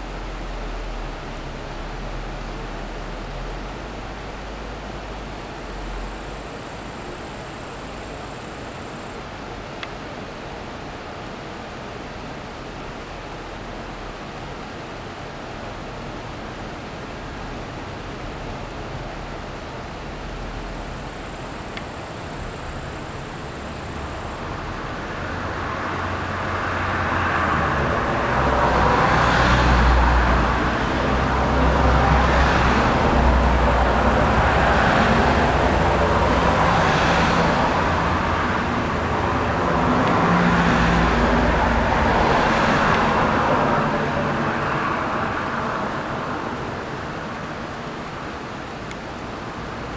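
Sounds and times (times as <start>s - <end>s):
vehicle engine hum: 0.0s - 10.2s, 17.4s - 49.9s.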